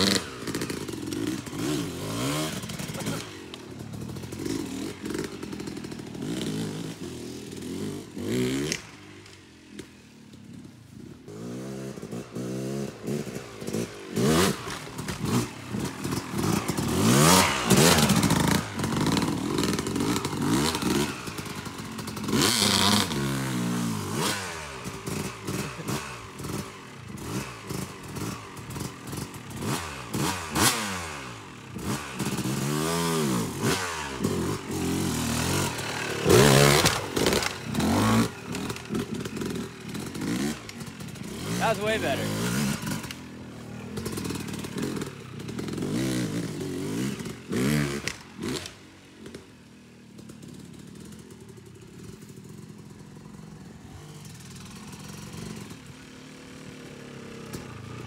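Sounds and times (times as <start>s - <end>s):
dirt bike engine revving: 0.0s - 49.5s.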